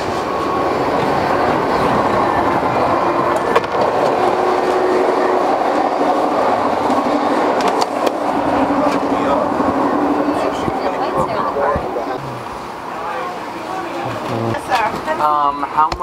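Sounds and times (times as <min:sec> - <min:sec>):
train cars rumbling and rattling: 0:00.0 - 0:16.0.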